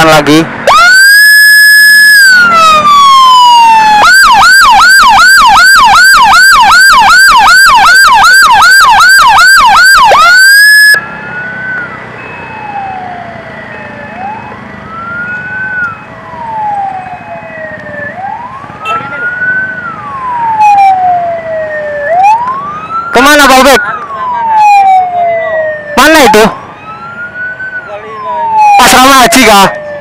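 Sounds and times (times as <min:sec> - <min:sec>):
faint siren wailing: 0:00.0 - 0:30.0
loud electronic siren yelping: 0:00.0 - 0:30.0.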